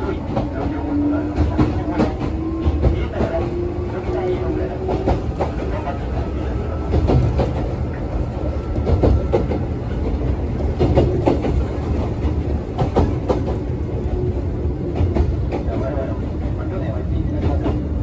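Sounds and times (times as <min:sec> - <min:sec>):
train running gear rumble: 0:00.0 - 0:18.0.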